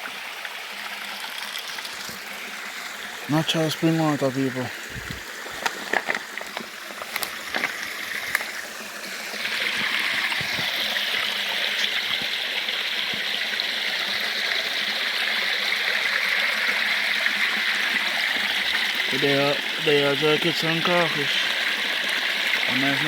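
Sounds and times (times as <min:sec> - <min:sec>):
spring water flowing: 0:00.0 - 0:23.0.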